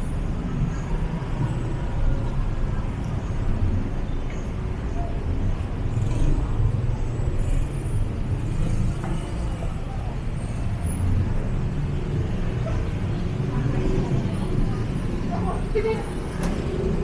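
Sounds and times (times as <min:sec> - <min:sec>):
road traffic rumble: 0:00.0 - 0:17.0
vehicles passing: 0:00.0 - 0:17.0
faint voices of people: 0:00.2 - 0:17.0.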